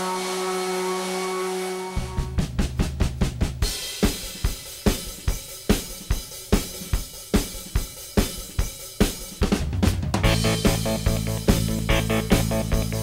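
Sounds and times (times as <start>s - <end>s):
drum kit playing steady beat: 2.0s - 13.0s.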